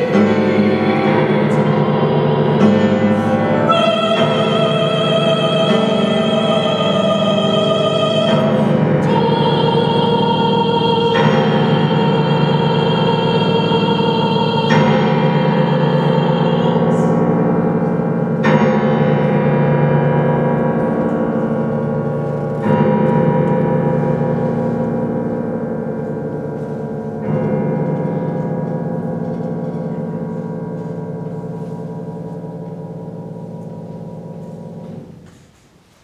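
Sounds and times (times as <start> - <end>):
grand piano chords ringing: 0.0 - 35.8.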